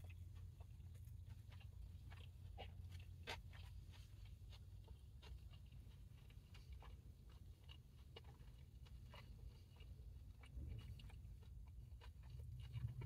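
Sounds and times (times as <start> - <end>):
faint wet chewing: 0.0 - 13.0.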